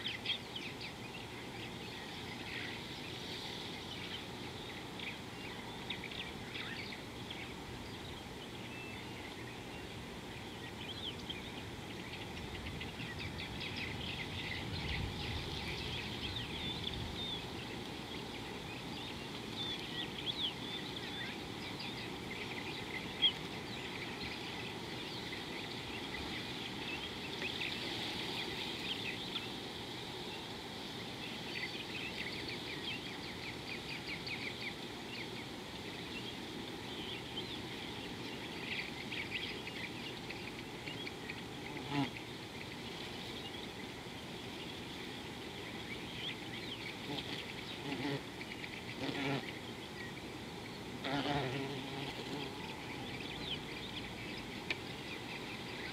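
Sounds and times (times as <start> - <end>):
outdoor background hiss: 0.0 - 55.9
small birds chirping: 0.0 - 55.9.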